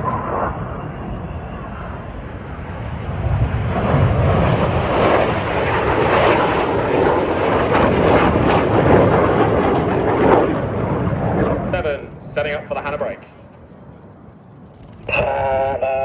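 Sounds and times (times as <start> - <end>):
jets passing low: 0.0 - 16.0.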